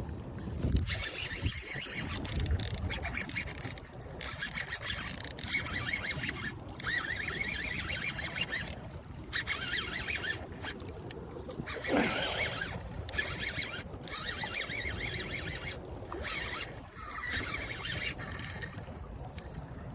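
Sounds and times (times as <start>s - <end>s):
sea water: 0.0s - 19.9s
wind: 0.0s - 19.9s.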